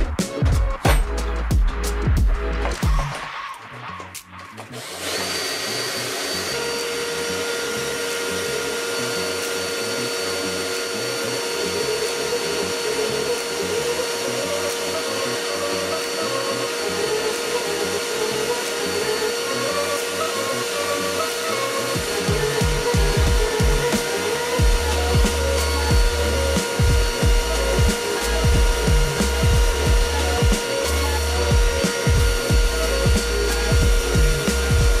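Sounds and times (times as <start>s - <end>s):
cordless drill whining: 4.6s - 35.0s.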